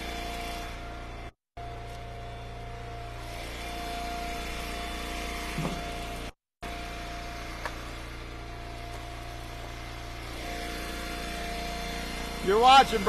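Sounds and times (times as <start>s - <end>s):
wood splitter engine running: 0.0s - 13.0s.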